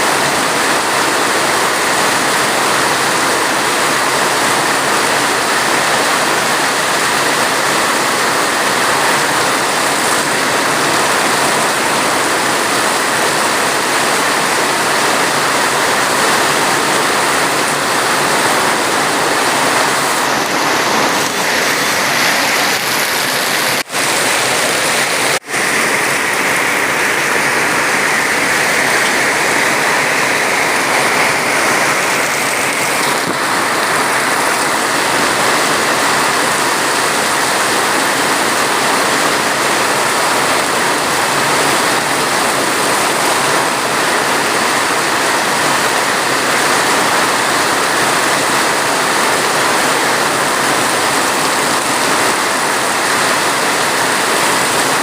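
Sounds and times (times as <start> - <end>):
dense rain hiss: 0.0 - 55.0.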